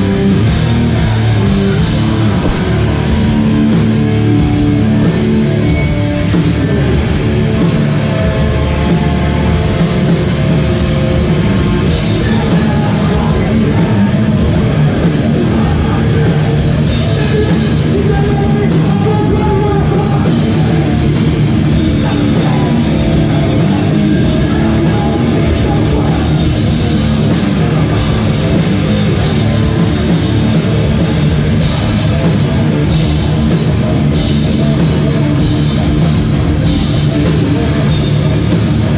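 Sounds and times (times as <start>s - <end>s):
drums: 0.0s - 38.9s
electric guitars: 0.0s - 38.9s.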